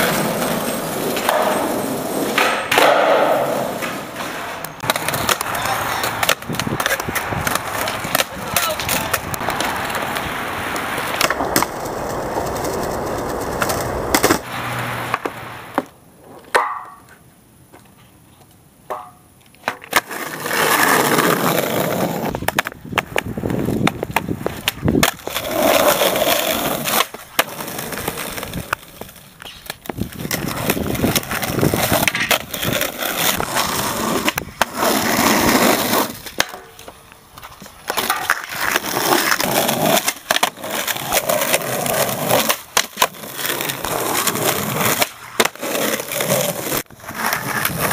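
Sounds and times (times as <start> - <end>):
skateboard clacks popping and landing: 0.0 - 17.2, 18.8 - 47.9
skateboard wheels rolling on concrete: 0.0 - 47.9.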